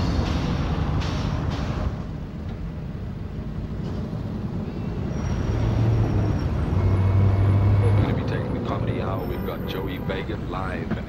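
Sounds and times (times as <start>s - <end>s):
car engine rumble: 0.0s - 11.0s
street traffic: 0.0s - 11.0s.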